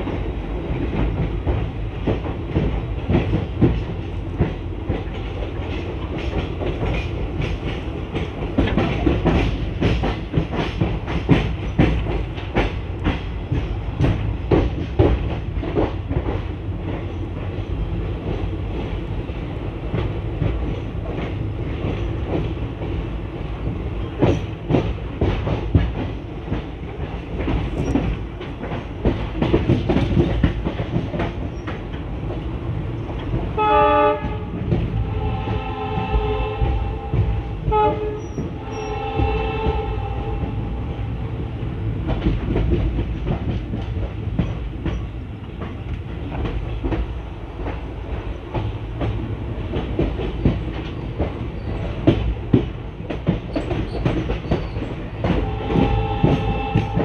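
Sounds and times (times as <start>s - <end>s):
train wheels clattering: 0.0s - 57.0s.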